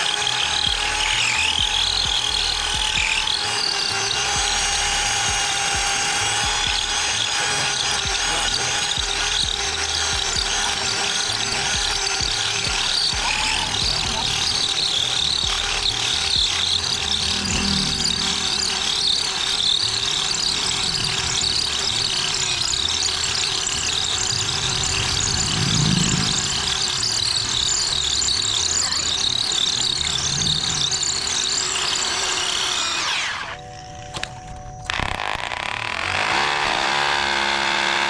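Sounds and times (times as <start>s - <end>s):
power tool whining: 0.0s - 38.0s.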